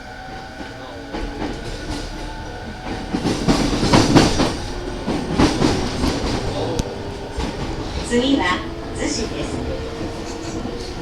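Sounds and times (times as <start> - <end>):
train wheels rumbling: 0.0 - 11.0
wheels clattering over rail joints: 0.3 - 11.0.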